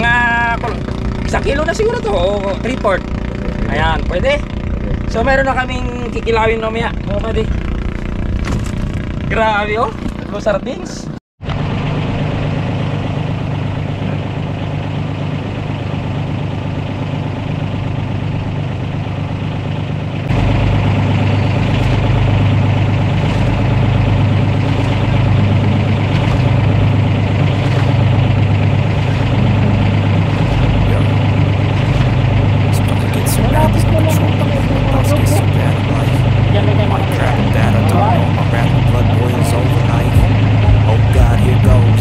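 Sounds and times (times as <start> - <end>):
boat engine droning: 0.0 - 42.0.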